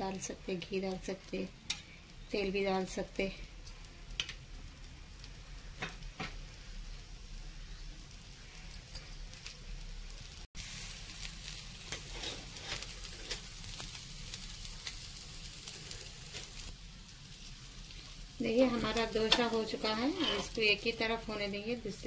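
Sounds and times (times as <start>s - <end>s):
dosa sizzling on hot griddle: 0.0s - 22.0s.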